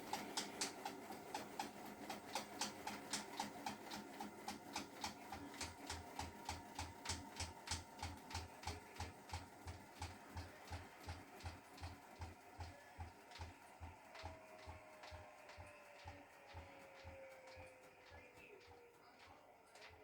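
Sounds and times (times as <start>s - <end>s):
washing machine knocking: 0.0s - 20.0s.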